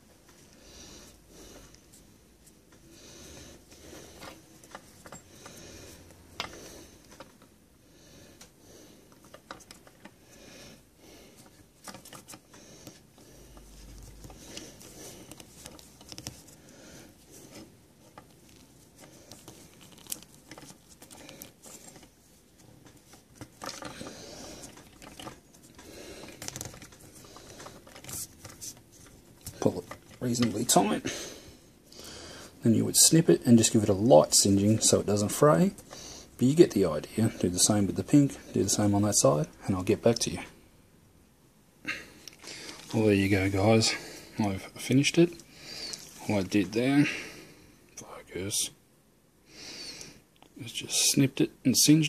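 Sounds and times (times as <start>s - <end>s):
cord rustling and rubbing: 0.0s - 31.1s, 31.7s - 40.4s, 42.2s - 47.0s.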